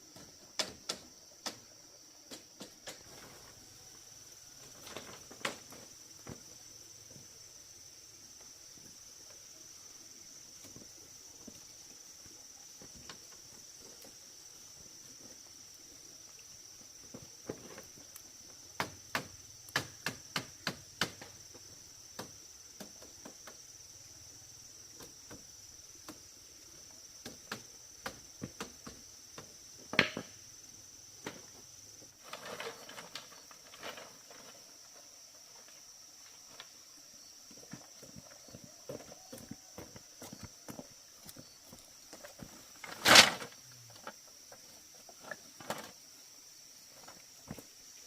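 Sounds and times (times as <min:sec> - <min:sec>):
insect chirring: 0:00.0 - 0:48.0.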